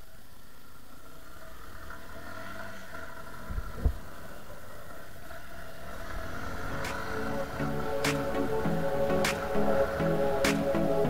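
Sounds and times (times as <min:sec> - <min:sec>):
motorcycle engine running: 0:00.6 - 0:10.3.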